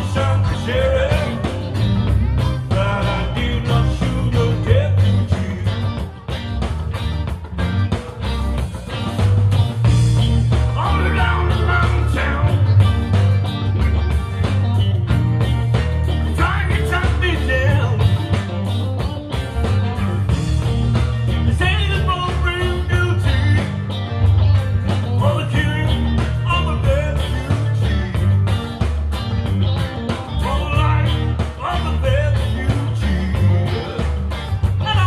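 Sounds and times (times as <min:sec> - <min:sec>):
bass guitar: 0:00.0 - 0:35.0
electric guitars: 0:00.0 - 0:35.0
steady drum beat: 0:00.0 - 0:35.0.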